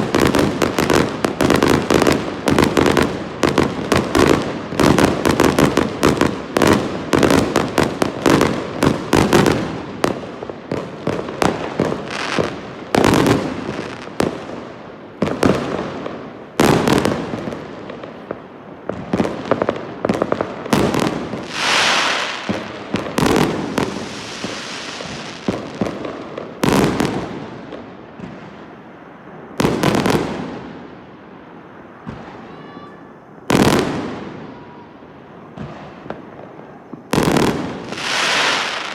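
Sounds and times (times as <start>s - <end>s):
fireworks bangs: 0.0s - 38.9s
fireworks crackling and hissing: 0.0s - 38.9s.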